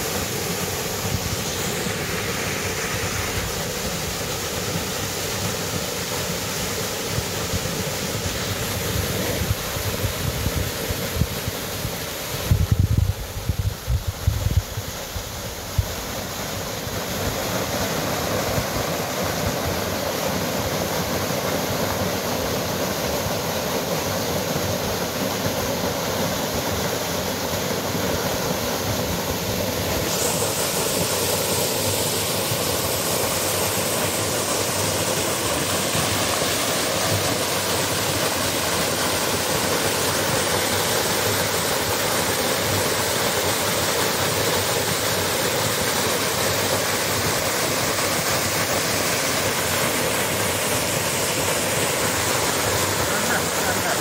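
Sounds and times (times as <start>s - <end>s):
waterfall splashing into pool: 0.0s - 54.0s.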